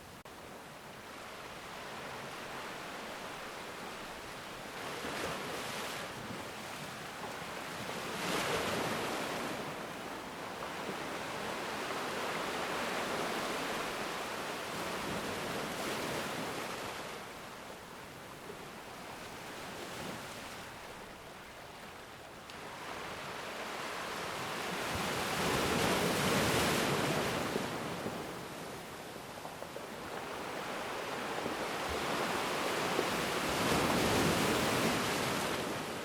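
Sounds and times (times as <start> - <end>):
ocean waves breaking on shore: 0.0 - 36.0.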